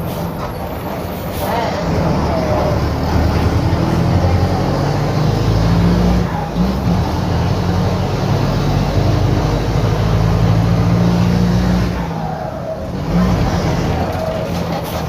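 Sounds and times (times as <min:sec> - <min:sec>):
bus diesel engine under load: 0:00.0 - 0:15.0.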